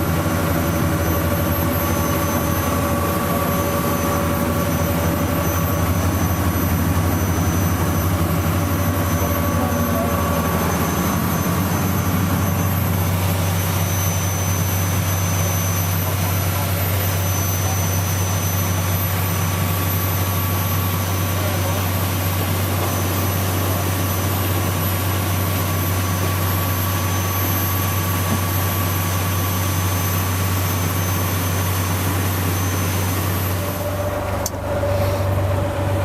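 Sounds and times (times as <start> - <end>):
boat diesel engine running: 0.0 - 36.0.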